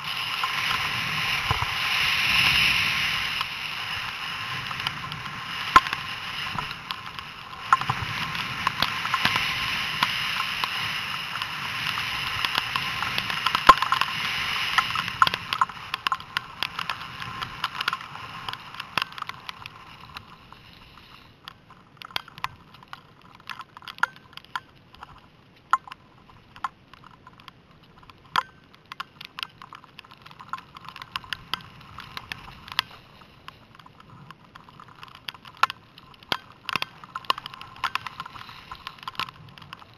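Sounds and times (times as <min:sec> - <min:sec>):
scattered clicks and ticks: 0:00.0 - 0:39.9
skis sliding over snow: 0:00.0 - 0:39.9.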